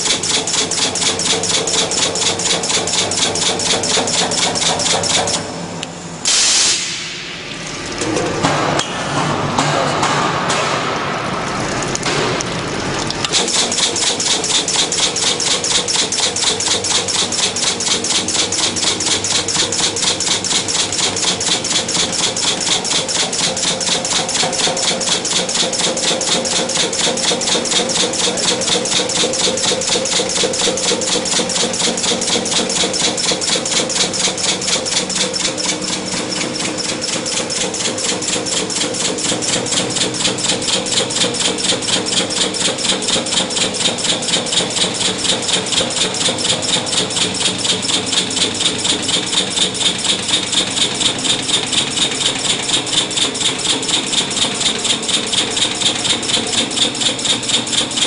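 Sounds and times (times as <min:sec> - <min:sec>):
welding machine pulsing buzz: 0:00.0 - 0:06.7, 0:12.7 - 0:58.0.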